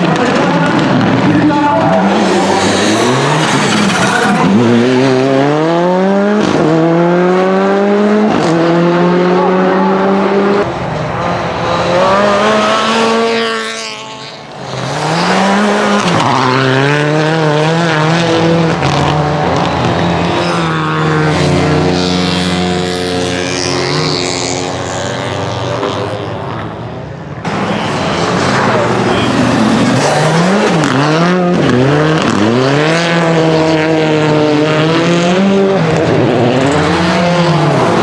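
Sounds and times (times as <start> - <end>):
rally car engine accelerating: 0.0 - 38.0.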